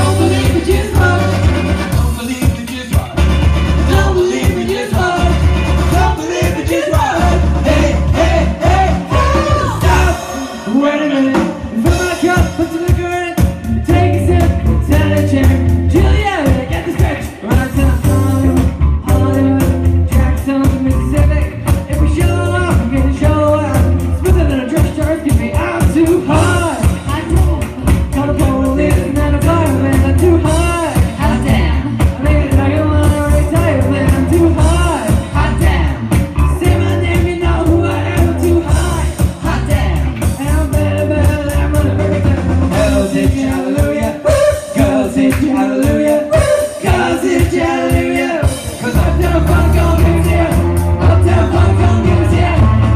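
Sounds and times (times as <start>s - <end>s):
pop-funk song with vocals: 0.0s - 52.9s.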